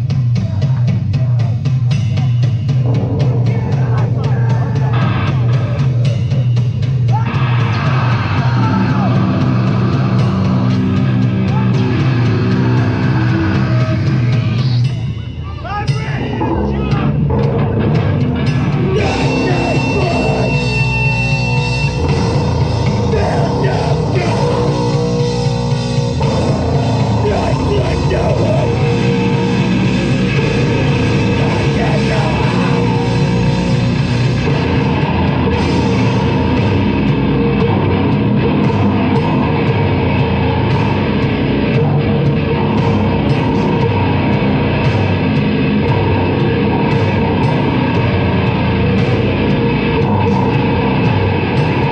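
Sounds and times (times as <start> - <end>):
heavy rock band playing: 0.0 - 51.9.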